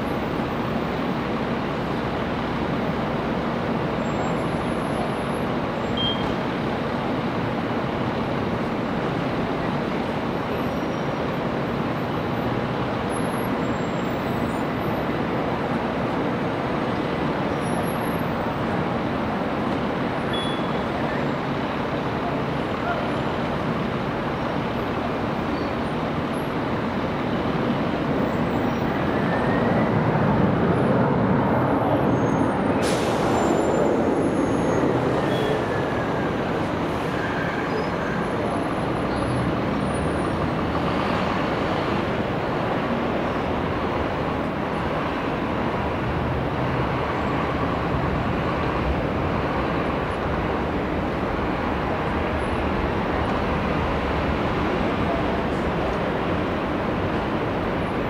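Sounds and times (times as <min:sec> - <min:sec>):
jet airliner engines running: 0:00.0 - 0:58.0.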